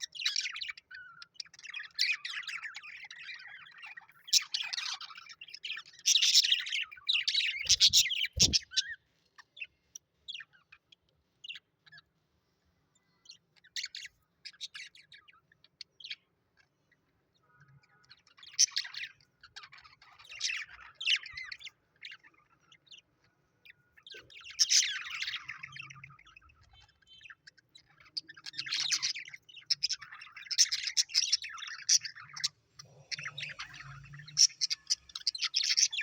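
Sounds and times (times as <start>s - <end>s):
birds chirping: 0.0s - 12.0s, 12.9s - 36.0s.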